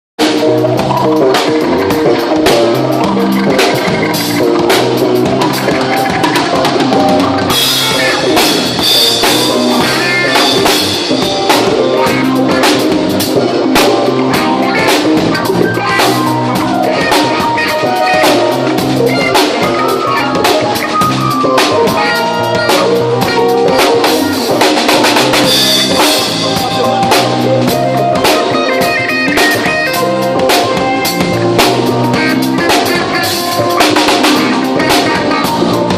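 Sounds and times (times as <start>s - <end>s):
bass guitar: 0.2s - 35.9s
drum kit beat: 0.2s - 35.9s
electric guitar: 0.2s - 35.9s
keyboard: 0.2s - 35.9s.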